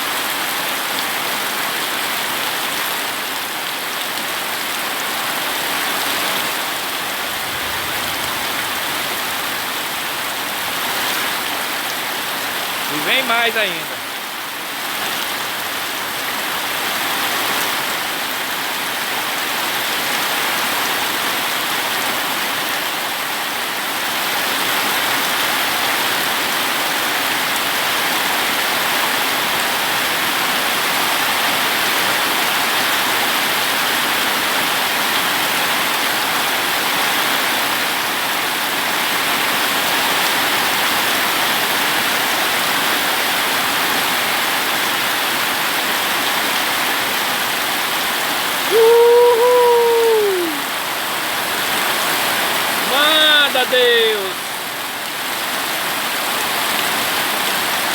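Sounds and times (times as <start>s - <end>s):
rain pouring: 0.0s - 57.9s.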